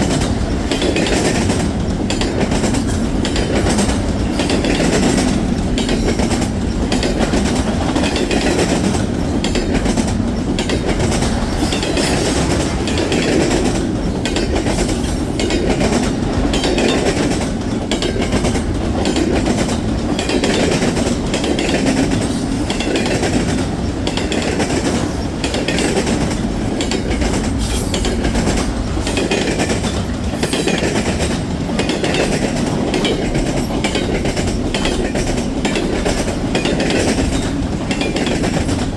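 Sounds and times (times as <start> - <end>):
train cars rumbling: 0.0 - 38.9
wheels clicking over rail joints: 0.0 - 38.9.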